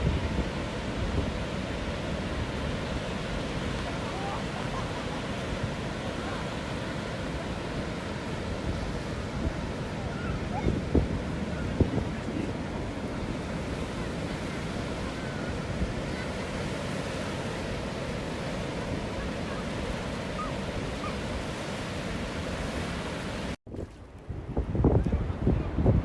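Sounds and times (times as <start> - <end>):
sea waves washing: 0.0 - 23.6
wind rumbling on microphone: 0.0 - 26.0.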